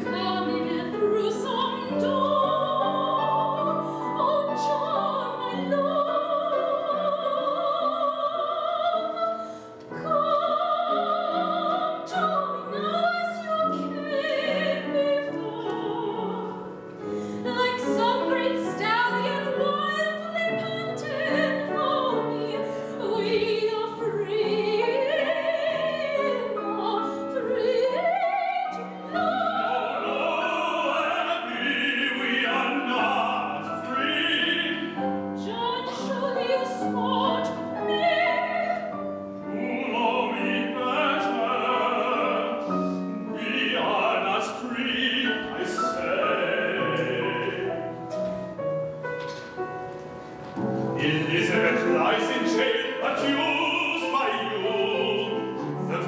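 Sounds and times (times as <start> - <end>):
operatic singing: 0.0 - 48.1, 50.6 - 56.0
piano chords: 0.0 - 56.0.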